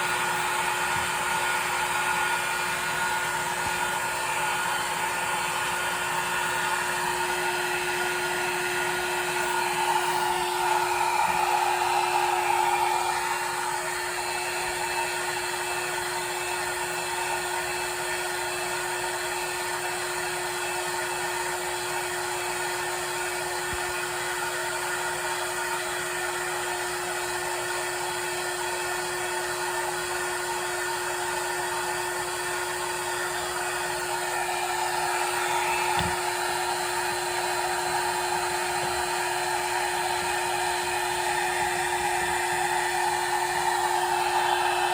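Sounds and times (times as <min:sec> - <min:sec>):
hair dryer blowing: 0:00.0 - 0:44.9.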